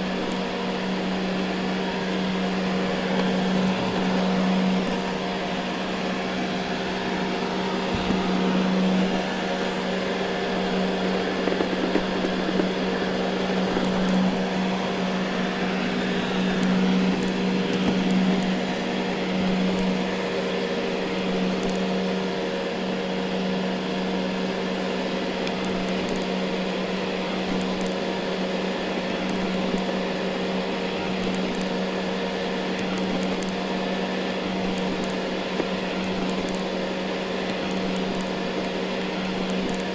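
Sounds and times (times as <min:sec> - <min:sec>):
robot vacuum motor drone: 0:00.0 - 0:39.9.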